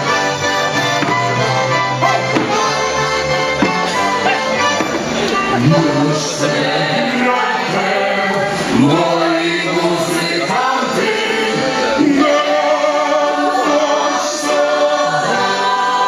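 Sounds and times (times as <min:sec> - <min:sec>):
mixed choir singing folk song: 0:00.0 - 0:16.0.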